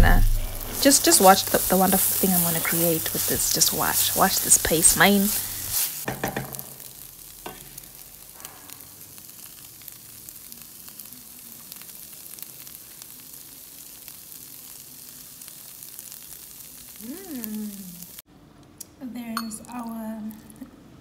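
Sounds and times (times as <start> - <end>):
food sizzling in a frying pan: 0.0 - 18.3.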